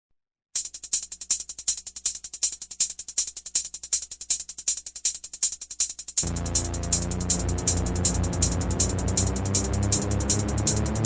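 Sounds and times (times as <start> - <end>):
synthetic hi-hat ticking: 0.6 - 11.0.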